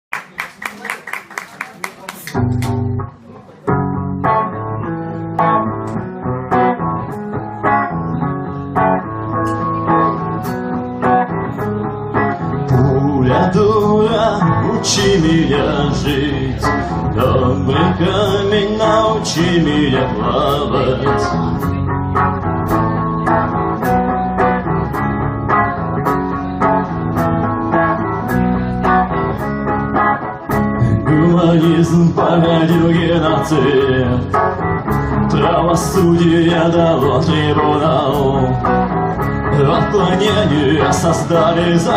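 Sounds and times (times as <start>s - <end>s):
live band instrumental: 0.2s - 41.9s
guitar chords struck: 3.7s - 41.5s.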